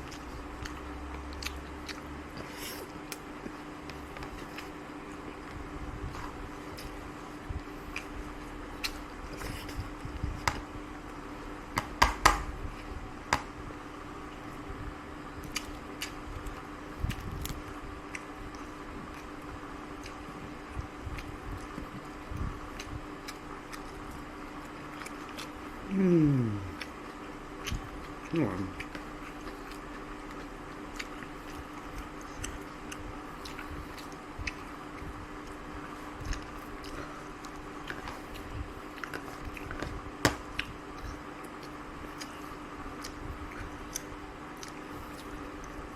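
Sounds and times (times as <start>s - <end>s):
chewing: 0.0s - 10.4s, 15.4s - 45.9s
steady low hum: 0.0s - 45.9s.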